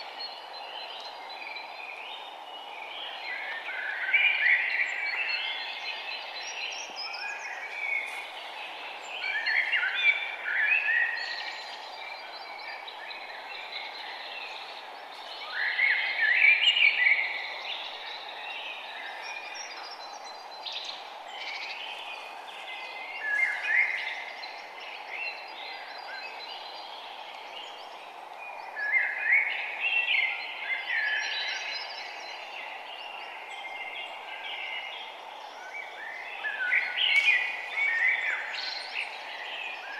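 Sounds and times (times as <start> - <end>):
songbirds singing: 0.0 - 39.9
steady background hiss: 0.0 - 39.9.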